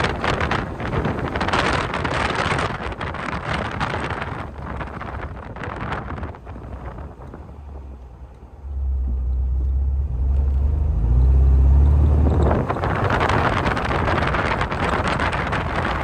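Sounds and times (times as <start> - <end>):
car driving rumble: 0.0 - 16.0
wind rushing over microphone: 0.0 - 16.0.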